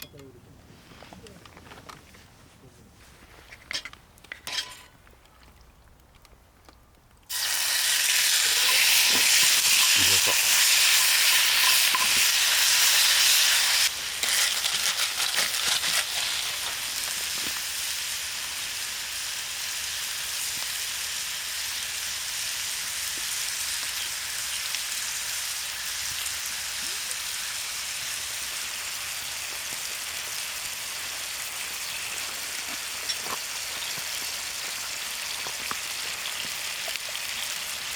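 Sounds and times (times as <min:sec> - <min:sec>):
food sizzling in a pan: 0:07.3 - 0:37.9.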